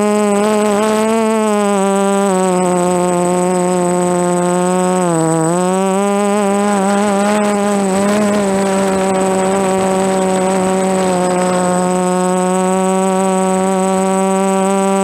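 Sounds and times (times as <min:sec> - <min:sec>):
drone propellers droning: 0:00.0 - 0:15.0.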